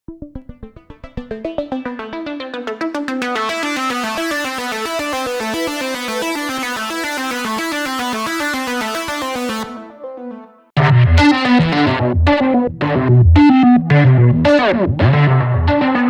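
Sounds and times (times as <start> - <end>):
synthesizer arpeggio: 0.1 - 14.6.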